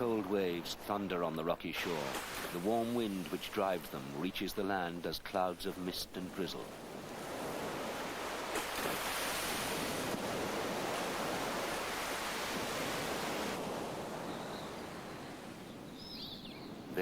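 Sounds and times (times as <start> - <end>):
waves breaking on rocky shore: 0.0 - 15.8.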